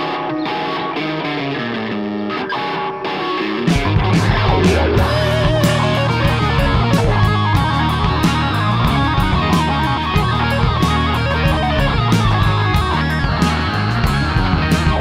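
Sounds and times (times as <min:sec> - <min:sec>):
blues rock band playing: 0:00.0 - 0:15.0.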